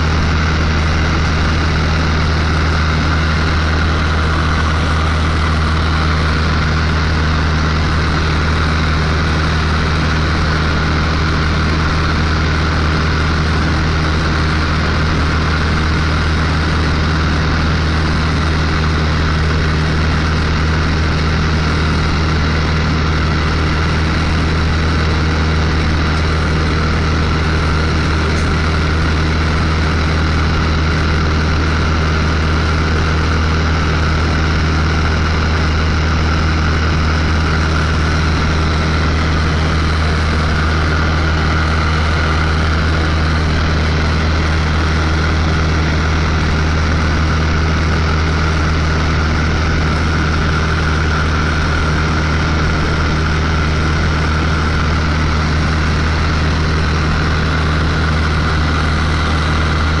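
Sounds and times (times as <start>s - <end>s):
propeller airplane engine droning: 0.0s - 60.0s.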